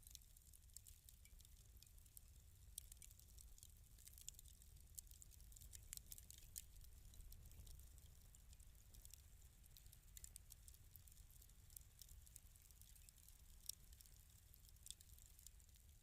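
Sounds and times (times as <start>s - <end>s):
wood fire crackling faintly: 0.0s - 16.0s.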